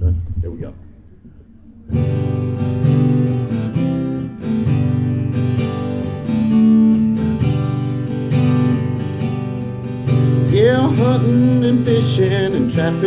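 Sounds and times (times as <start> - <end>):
acoustic guitar strumming chords: 1.8 - 13.0.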